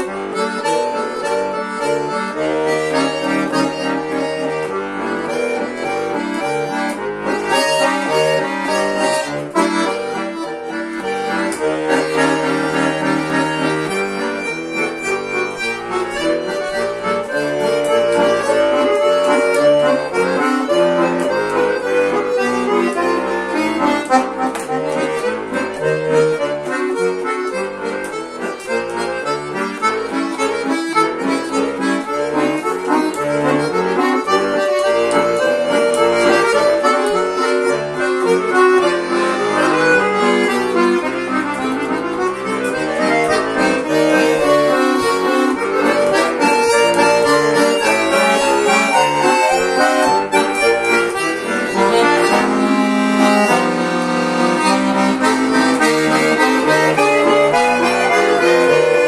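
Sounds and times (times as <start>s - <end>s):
button accordion solo: 0.0s - 59.0s.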